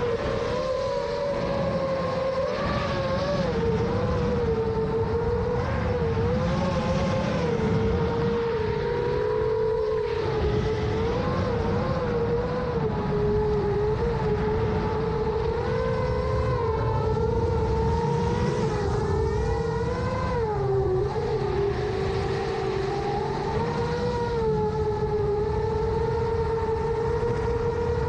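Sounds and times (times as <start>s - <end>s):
drone motors whining: 0.0s - 28.0s
wind rushing over microphone: 0.0s - 28.0s.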